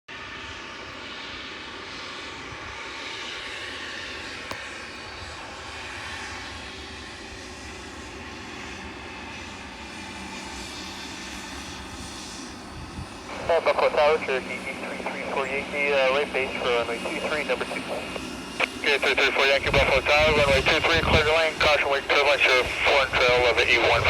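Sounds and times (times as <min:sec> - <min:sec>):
airplane engine noise: 0:00.1 - 0:24.0.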